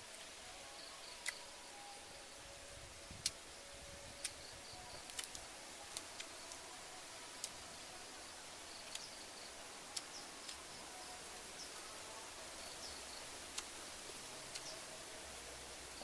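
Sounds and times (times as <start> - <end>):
insects buzzing: 0.0 - 16.0
faint high chirps: 0.3 - 16.0.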